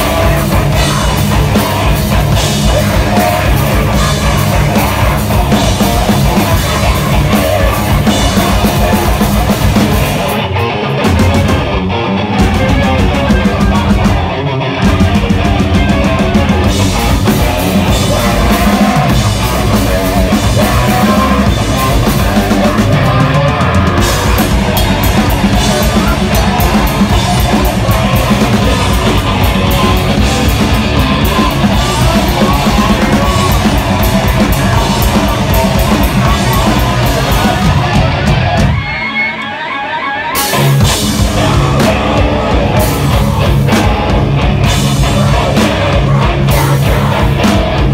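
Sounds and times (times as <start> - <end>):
metal band playing live: 0.0 - 47.9.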